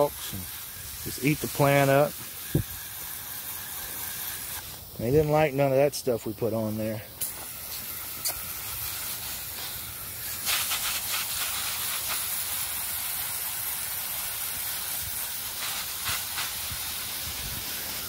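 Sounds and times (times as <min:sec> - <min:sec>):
hose nozzle spraying mist: 0:00.0 - 0:18.0.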